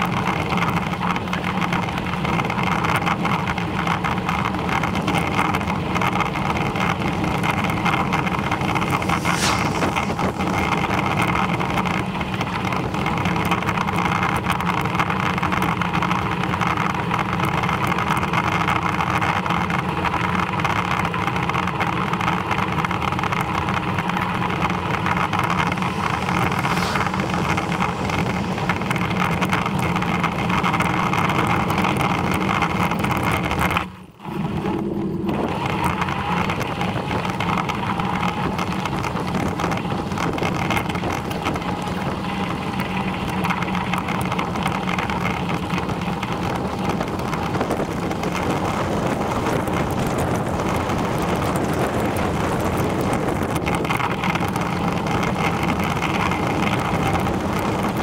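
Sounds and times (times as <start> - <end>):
vehicle running on road: 0.0 - 58.0.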